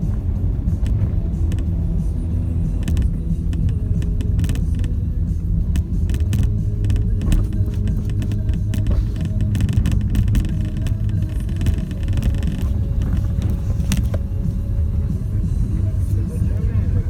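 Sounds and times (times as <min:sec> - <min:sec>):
engine and tyres rumbling: 0:00.0 - 0:17.0
sharp knocks and clicks: 0:00.1 - 0:14.7.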